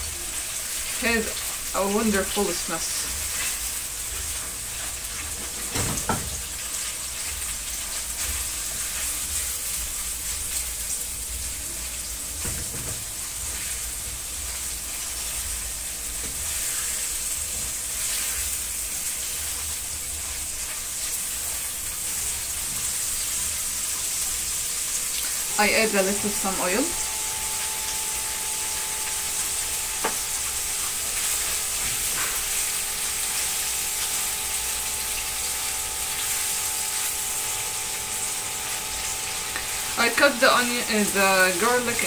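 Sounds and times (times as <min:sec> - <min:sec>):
meat frying in oil: 0:00.0 - 0:42.0.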